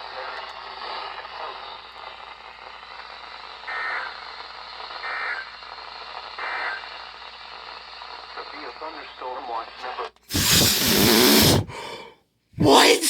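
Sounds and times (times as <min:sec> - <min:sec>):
radio static hiss: 0:00.0 - 0:11.8.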